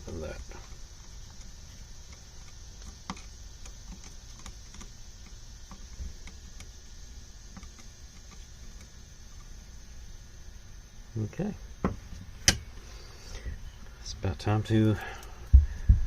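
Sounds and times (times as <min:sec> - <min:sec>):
steady faint hiss: 0:00.0 - 0:16.0.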